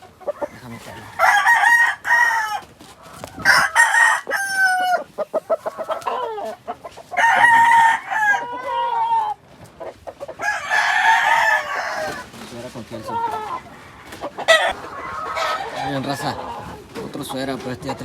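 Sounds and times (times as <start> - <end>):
roosters crowing: 0.0 - 18.0.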